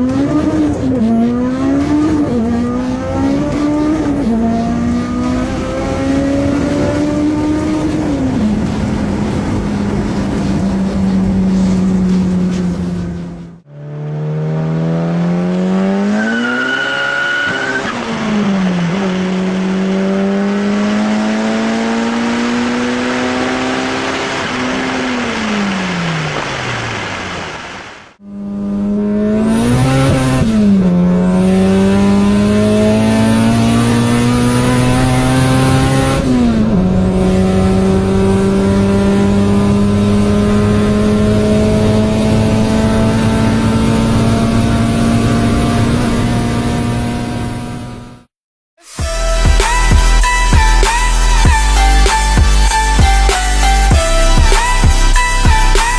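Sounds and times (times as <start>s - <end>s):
car engine accelerating through gears: 0.0s - 27.2s, 28.2s - 48.3s.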